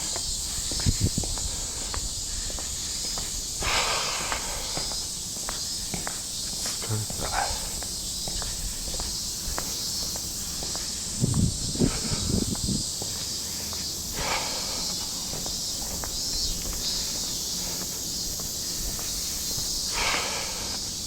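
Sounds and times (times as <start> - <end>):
cicadas droning: 0.0 - 21.0.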